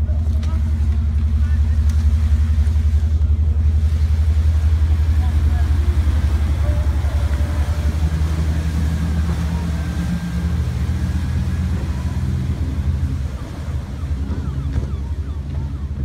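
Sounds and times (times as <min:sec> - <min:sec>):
speedboat engine running hard: 0:00.0 - 0:16.0.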